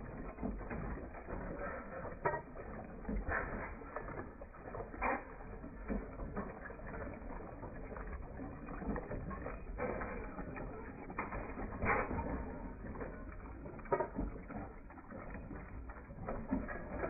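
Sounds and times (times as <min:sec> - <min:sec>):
machine parts clicking and clanking: 0:00.0 - 0:17.0
old engine running: 0:00.0 - 0:17.0.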